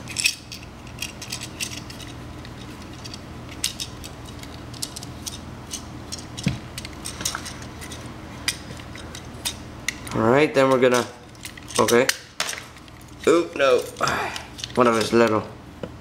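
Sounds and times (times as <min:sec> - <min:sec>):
plastic toy parts clicking and rattling: 0:00.1 - 0:15.4.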